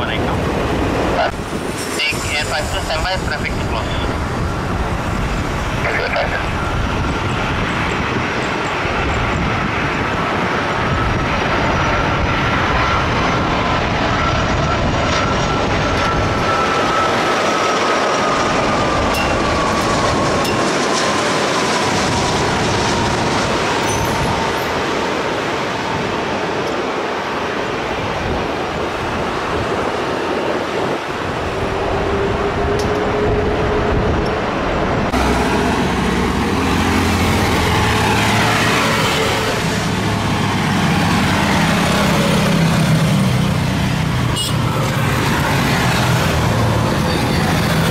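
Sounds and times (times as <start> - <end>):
jet airliner passing overhead: 0.0 - 47.9.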